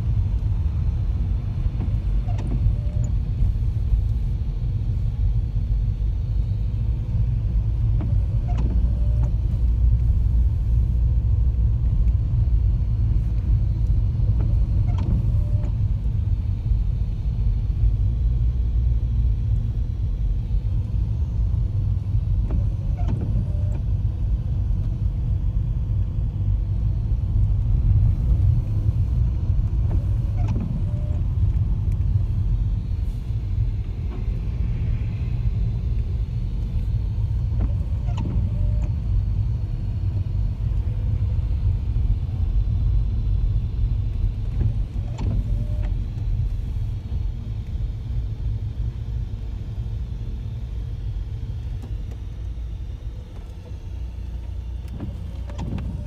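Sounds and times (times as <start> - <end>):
car rumble inside cabin: 0.0 - 56.0.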